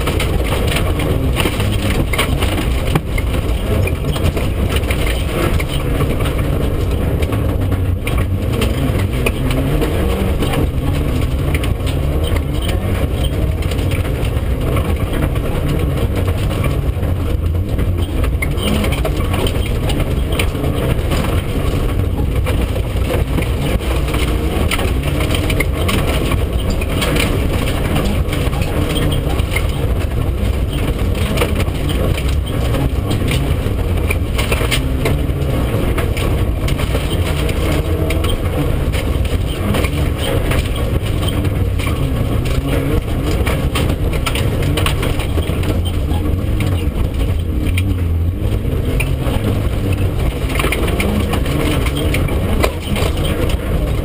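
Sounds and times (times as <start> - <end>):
gravel rattling against car underside: 0.0 - 54.0
rally car engine running hard: 0.0 - 54.0.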